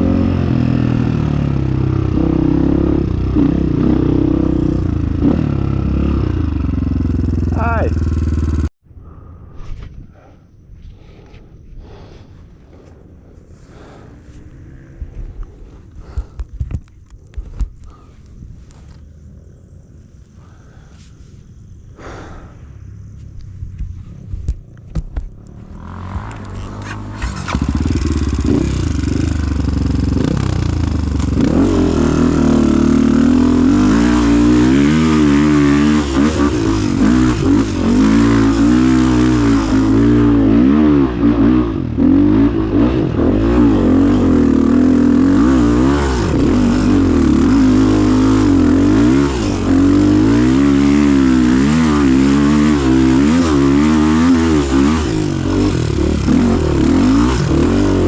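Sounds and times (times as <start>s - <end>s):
motorcycle engine revving: 0.0s - 8.8s, 12.7s - 16.5s, 21.8s - 58.0s.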